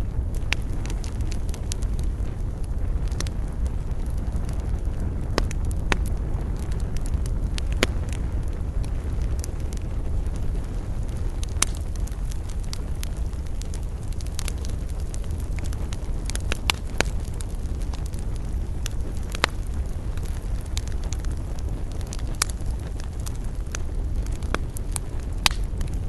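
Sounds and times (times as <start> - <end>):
campfire crackling and popping: 0.0 - 26.0
low rumble of burning fire: 0.0 - 26.0.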